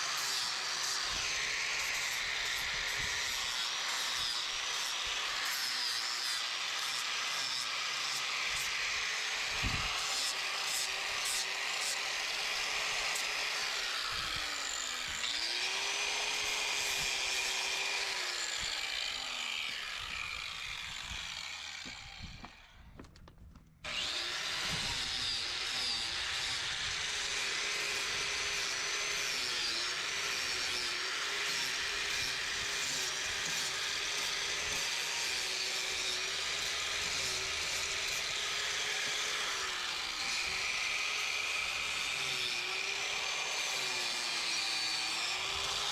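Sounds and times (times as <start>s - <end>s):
angle grinder grinding metal: 0.0s - 22.8s, 23.9s - 45.9s.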